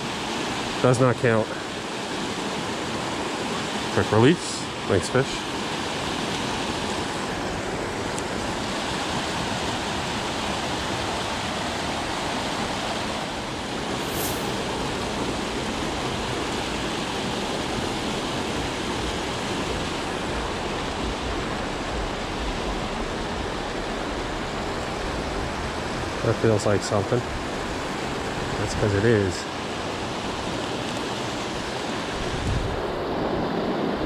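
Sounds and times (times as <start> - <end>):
water rushing over spillway: 0.0 - 34.0.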